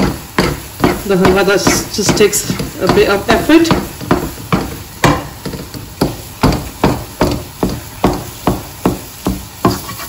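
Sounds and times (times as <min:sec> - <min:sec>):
wooden spoon knocking against wok: 0:00.0 - 0:09.9.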